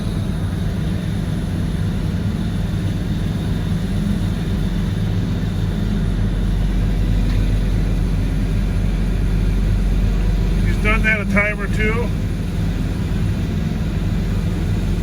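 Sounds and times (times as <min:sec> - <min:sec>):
heavy machine engine droning: 0:00.0 - 0:15.0.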